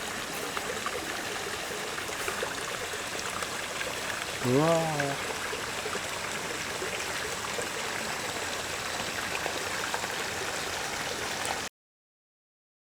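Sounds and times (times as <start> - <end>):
running water splashing: 0.0 - 11.7.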